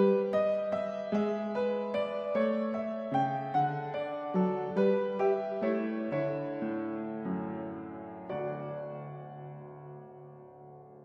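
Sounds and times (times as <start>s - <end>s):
slow gentle piano: 0.0s - 11.0s.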